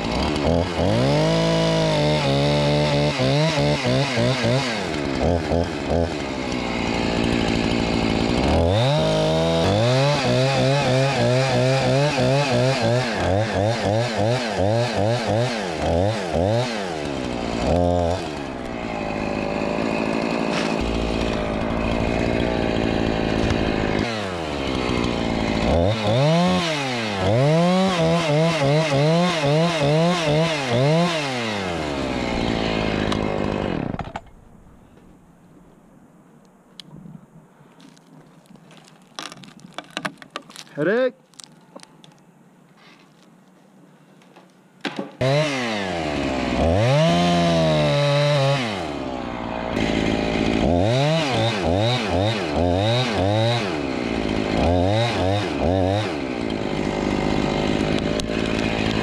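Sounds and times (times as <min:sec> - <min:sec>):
chainsaw cutting wood: 0:00.0 - 0:34.5, 0:44.8 - 0:59.0.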